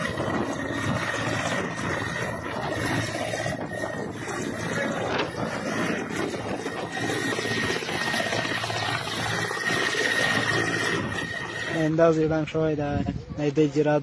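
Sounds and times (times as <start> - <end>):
high whine: 0.0 - 12.8
helicopter rotor chopping: 0.0 - 13.7.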